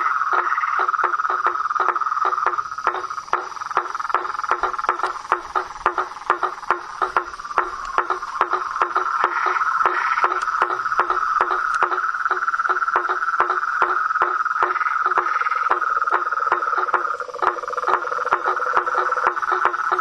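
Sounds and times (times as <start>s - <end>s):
frogs croaking: 0.0s - 20.0s
frogs high trill: 0.0s - 20.0s.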